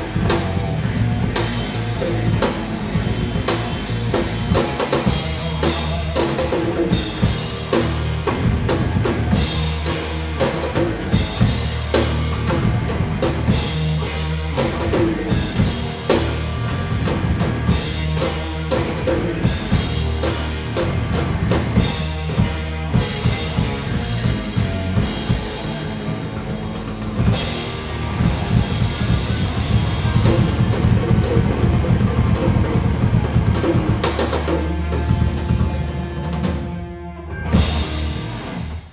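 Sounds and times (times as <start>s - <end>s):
rock music with drum kit: 0.0s - 38.9s.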